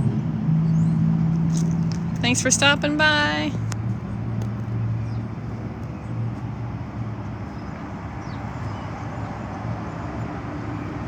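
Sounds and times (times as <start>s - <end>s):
low engine hum: 0.0s - 11.0s
street traffic noise: 0.0s - 11.0s.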